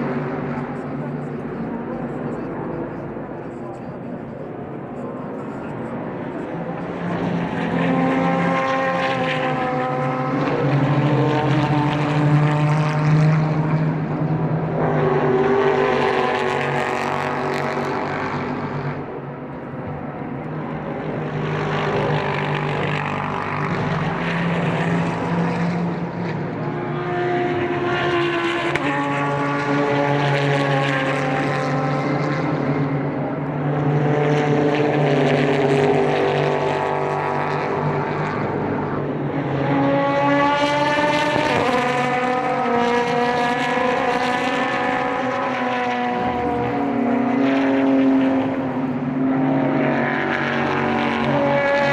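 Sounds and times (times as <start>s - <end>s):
race cars passing at speed: 0.0s - 51.9s.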